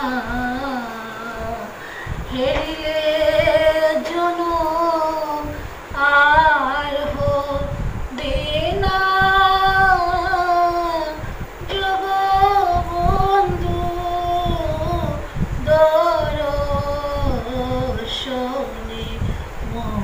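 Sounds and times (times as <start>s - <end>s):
woman singing into a microphone: 0.0s - 20.0s.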